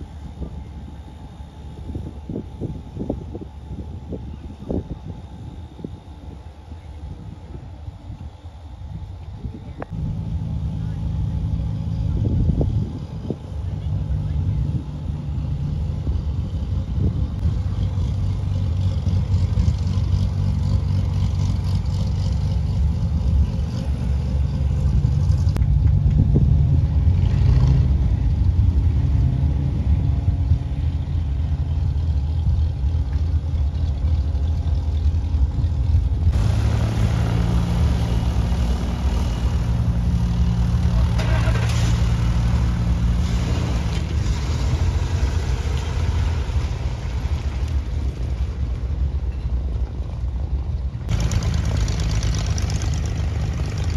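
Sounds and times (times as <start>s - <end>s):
propeller plane engine droning: 0.0s - 53.9s.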